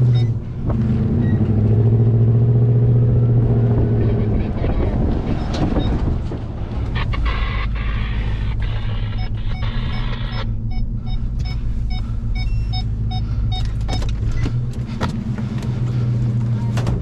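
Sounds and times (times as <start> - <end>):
truck engine idling: 3.2 - 17.0.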